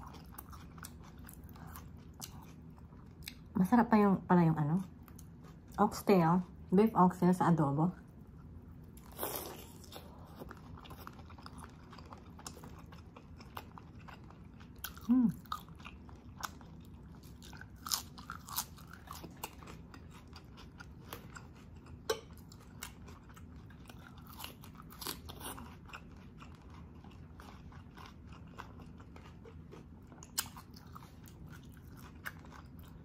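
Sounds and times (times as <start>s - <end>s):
person chewing and crunching food: 0.0s - 3.6s, 4.6s - 6.7s, 8.1s - 33.0s.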